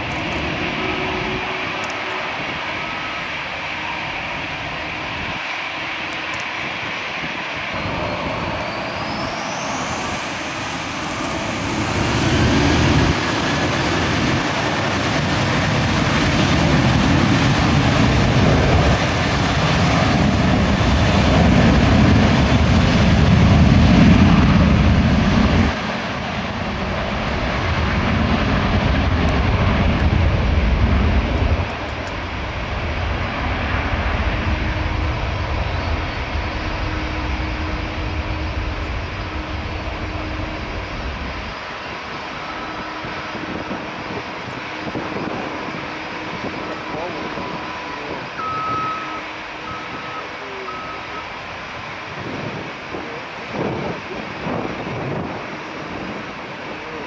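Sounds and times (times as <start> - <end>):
jet engines spooling up whine: 0.0 - 57.0
low rumble of takeoff roll: 0.0 - 57.0.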